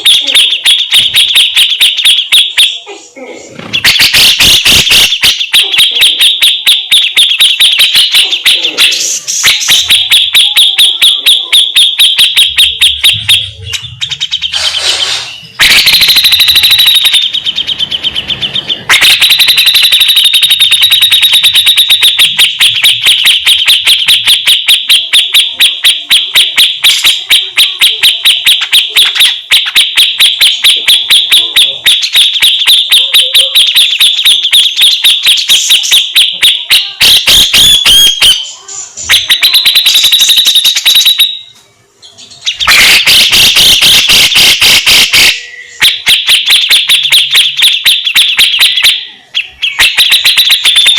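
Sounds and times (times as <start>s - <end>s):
bird chattering song: 0.0s - 50.9s.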